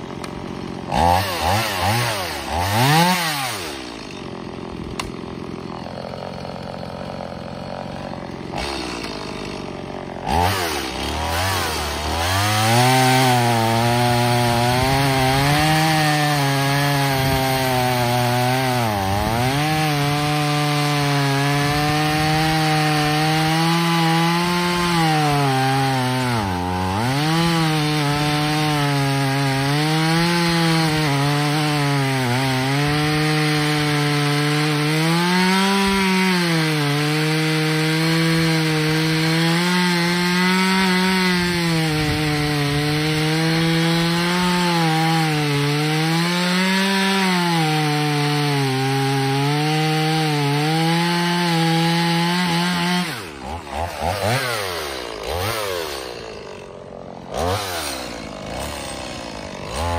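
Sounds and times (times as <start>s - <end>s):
chainsaw cutting through log: 0.0s - 59.9s
chainsaw revving and idling: 0.0s - 59.9s.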